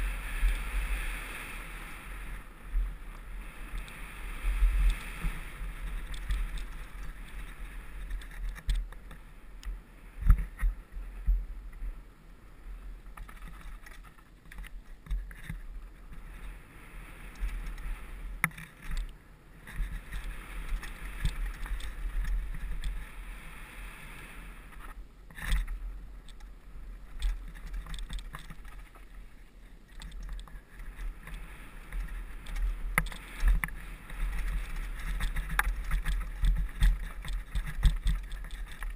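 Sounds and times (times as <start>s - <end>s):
mountain bike rattling on dirt trail: 0.0s - 9.3s, 13.0s - 23.5s, 24.7s - 38.9s
wind rumble on microphone: 0.0s - 38.9s.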